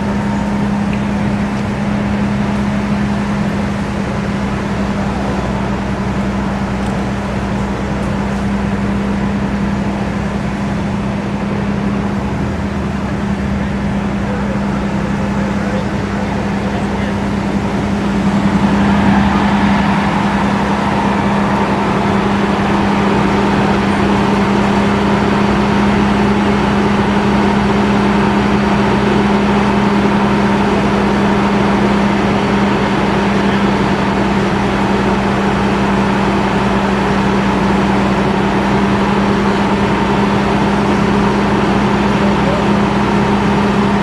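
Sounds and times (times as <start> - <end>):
fire truck engine humming: 0.0 - 44.0.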